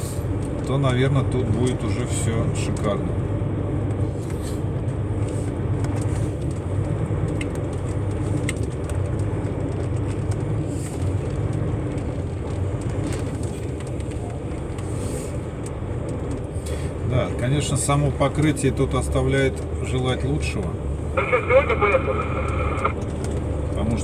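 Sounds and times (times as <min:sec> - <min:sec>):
diesel engine humming: 0:00.0 - 0:24.0.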